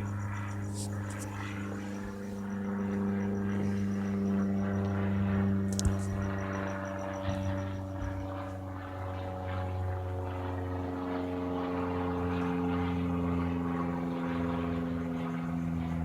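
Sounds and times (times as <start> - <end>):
propeller plane droning overhead: 0.0 - 16.0.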